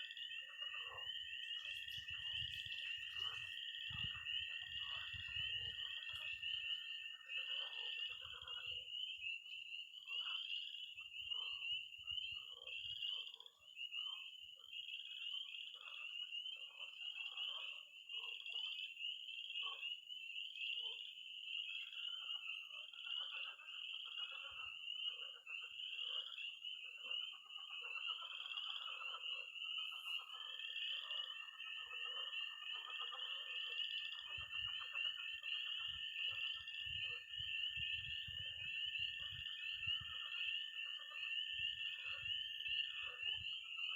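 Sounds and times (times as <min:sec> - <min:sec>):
spring peepers peeping: 0:00.0 - 0:17.7, 0:18.4 - 0:43.9
frogs croaking: 0:00.0 - 0:43.9.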